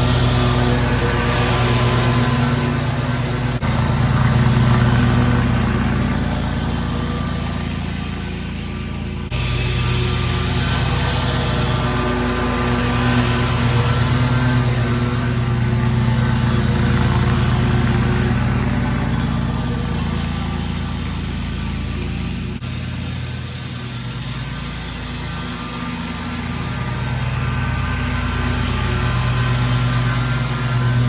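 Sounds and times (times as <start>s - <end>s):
lawn mower engine running: 0.0s - 31.0s.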